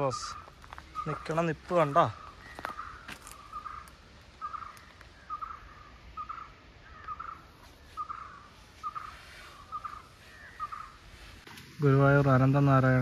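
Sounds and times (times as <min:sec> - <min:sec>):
bird calling: 0:00.0 - 0:11.4.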